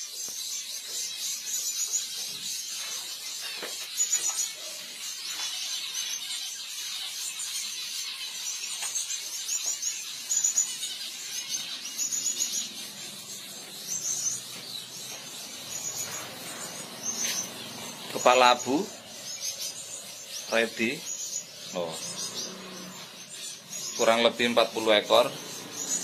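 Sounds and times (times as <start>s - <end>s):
finches chirping: 0.0s - 26.0s.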